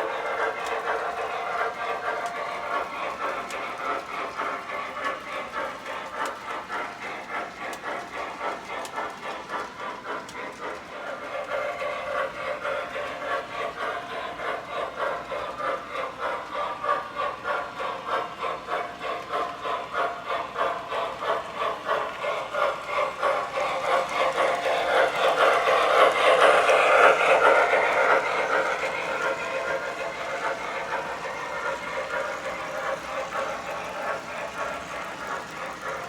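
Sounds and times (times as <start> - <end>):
model train hiss: 0.0 - 36.0
model train running on track: 0.0 - 36.0.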